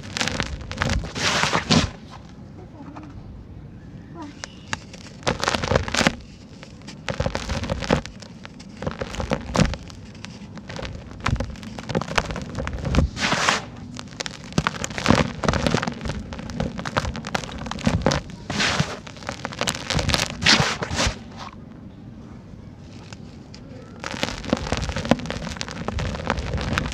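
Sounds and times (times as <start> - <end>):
sand-cement chunks crumbling: 0.0 - 2.3, 4.4 - 21.6, 22.9 - 26.9.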